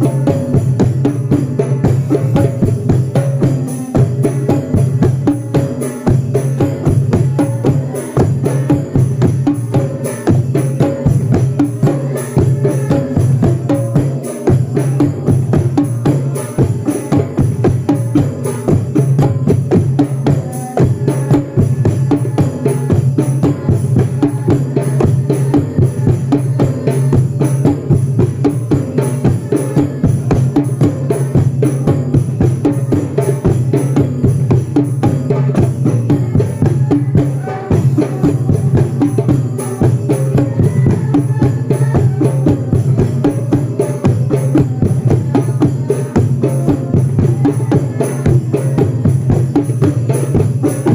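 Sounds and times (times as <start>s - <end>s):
fast continuous drumming: 0.0s - 50.9s.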